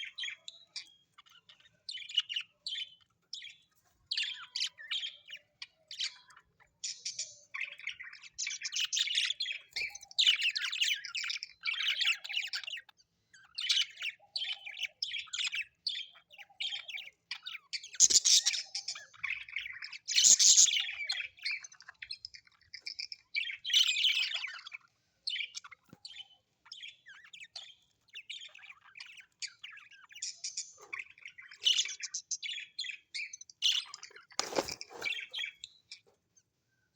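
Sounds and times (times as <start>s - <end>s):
parrots chattering and chirping: 0.0s - 36.6s.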